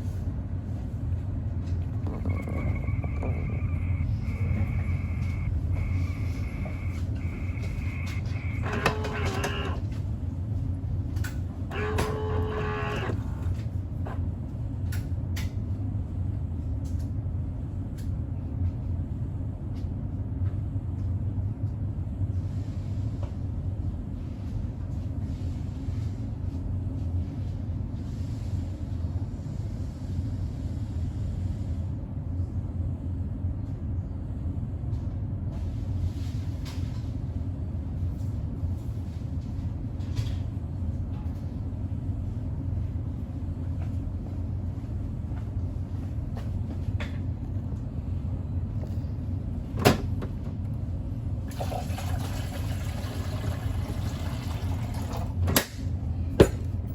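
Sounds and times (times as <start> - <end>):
low machine rumble: 0.0 - 56.9.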